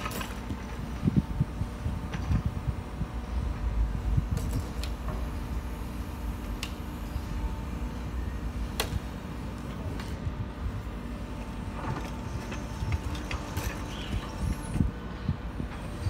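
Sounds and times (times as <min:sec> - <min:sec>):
excavator engine humming: 0:00.0 - 0:16.0.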